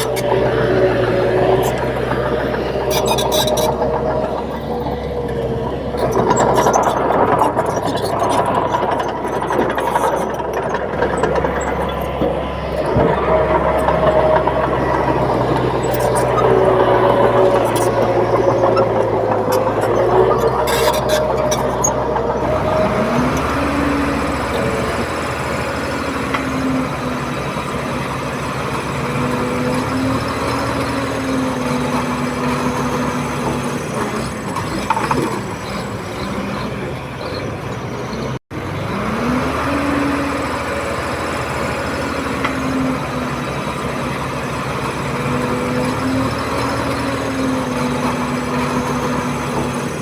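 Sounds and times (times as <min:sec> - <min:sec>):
bulldozer diesel engine revving: 0:00.0 - 0:50.0.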